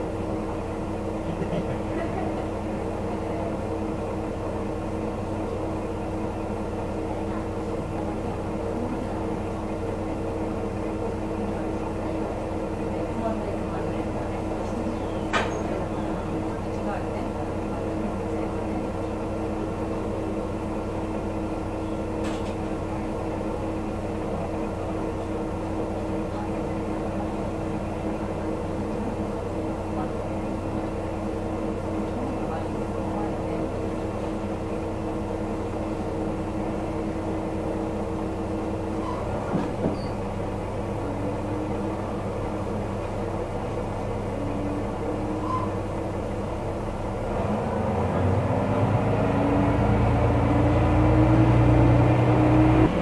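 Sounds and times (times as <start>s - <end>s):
low train rumble: 0.0s - 53.0s
railcar engine hum: 0.0s - 53.0s.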